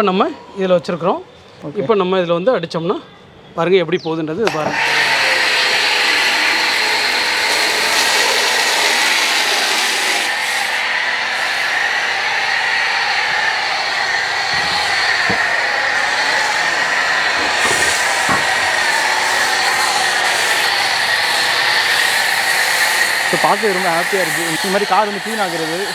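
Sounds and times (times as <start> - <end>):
pressure washer running: 4.5 - 25.9
hiss of foam spray: 4.9 - 25.9.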